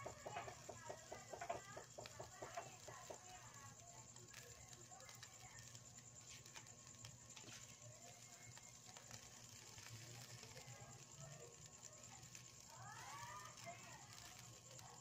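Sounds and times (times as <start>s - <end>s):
fish grilling crackling: 0.0s - 15.0s.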